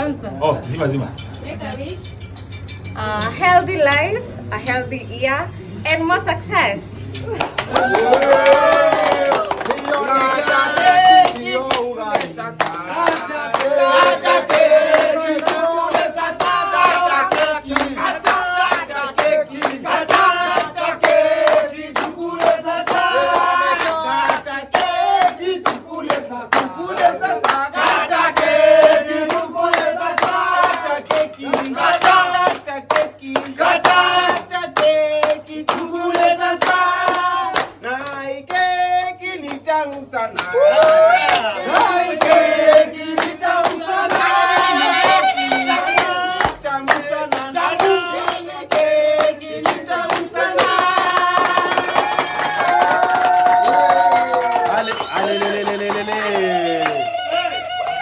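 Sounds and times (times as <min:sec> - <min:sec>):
hands clapping: 0:07.2 - 0:38.7, 0:39.4 - 0:58.0
group singing: 0:08.0 - 0:58.0.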